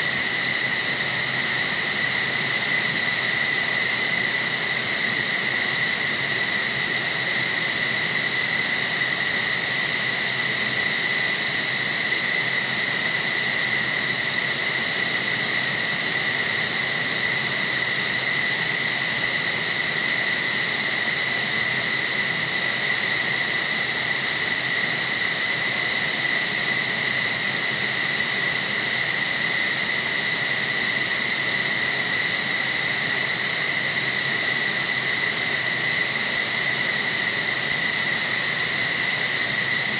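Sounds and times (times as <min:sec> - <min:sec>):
jet engine idling whine: 0:00.0 - 0:39.9.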